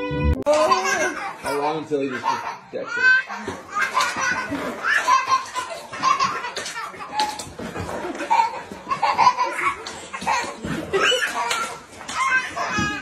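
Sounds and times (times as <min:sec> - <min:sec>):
toddler giggling: 0:00.5 - 0:13.0.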